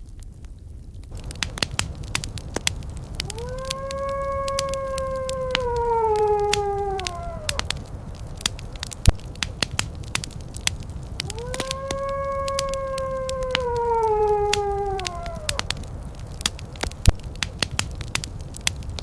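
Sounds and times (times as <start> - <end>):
fireplace crackling: 0.0 - 19.0
long howl: 1.2 - 9.5, 10.1 - 17.6.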